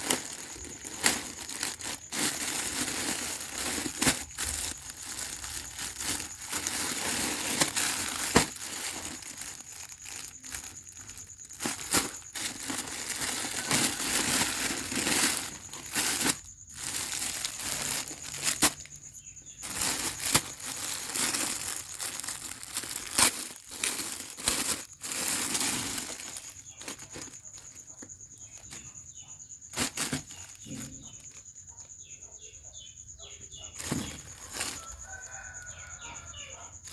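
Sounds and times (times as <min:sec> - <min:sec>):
packaging crinkling and rustling: 0:00.0 - 0:28.8, 0:29.7 - 0:31.3, 0:33.8 - 0:36.0.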